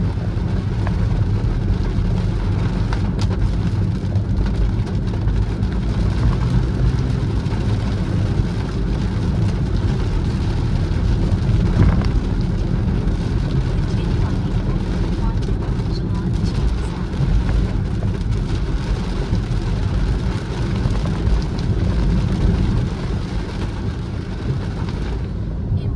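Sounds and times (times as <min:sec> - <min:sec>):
car road and engine rumble: 0:00.0 - 0:25.9
rain pattering on car: 0:00.0 - 0:25.9.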